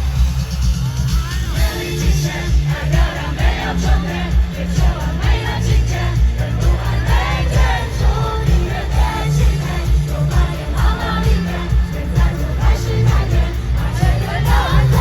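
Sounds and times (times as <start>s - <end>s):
crowd noise: 0.0s - 15.0s
heavy bass beat: 0.0s - 15.0s
woman singing: 1.1s - 15.0s.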